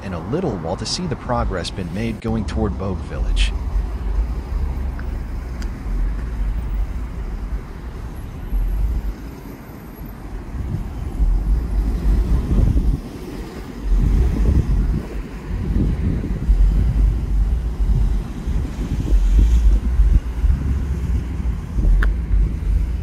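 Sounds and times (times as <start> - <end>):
wind buffeting microphone: 0.3 - 23.0.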